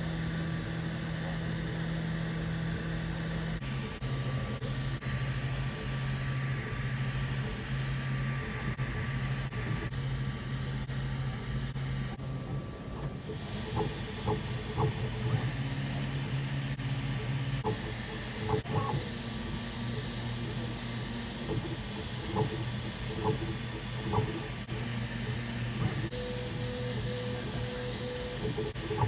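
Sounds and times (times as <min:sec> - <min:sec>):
stepper motors humming: 0:00.1 - 0:29.0.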